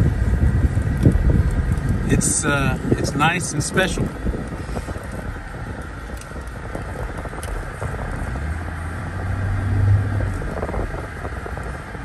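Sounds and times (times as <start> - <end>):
low engine drone: 0.0 - 12.0
road noise inside car: 0.0 - 12.0.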